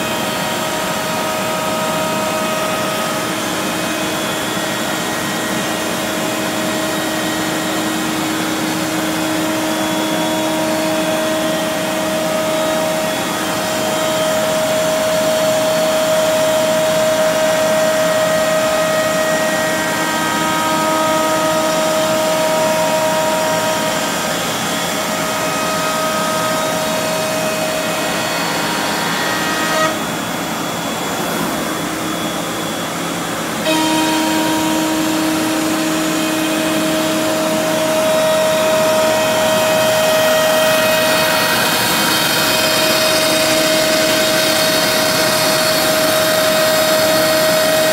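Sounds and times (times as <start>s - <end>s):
cnc router whining: 0.0s - 47.9s.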